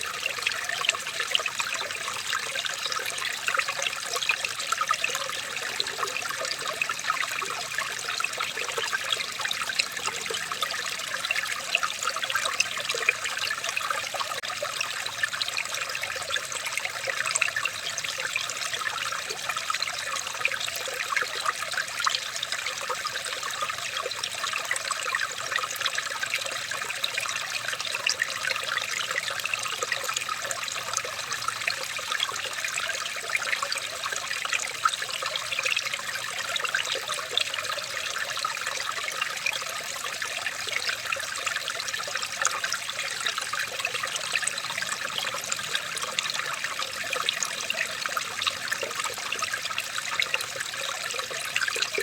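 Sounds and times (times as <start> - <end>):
water trickling and babbling: 0.0 - 52.0.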